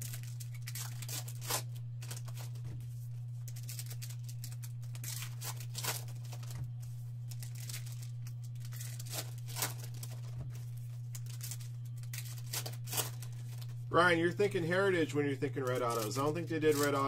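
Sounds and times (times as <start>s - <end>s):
foil wrappers crinkling: 0.0s - 17.0s
low electrical hum: 0.0s - 17.0s.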